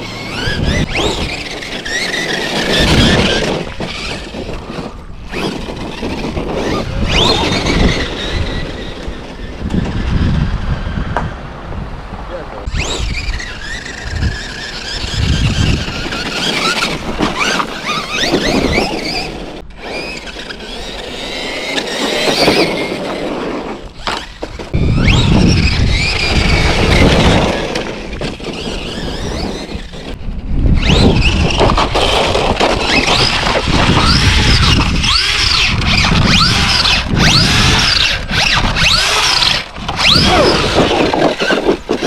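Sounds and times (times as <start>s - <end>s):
electric motor whining: 0.0s - 11.3s, 12.6s - 42.0s
rumbling tyre and chassis noise: 0.0s - 42.0s.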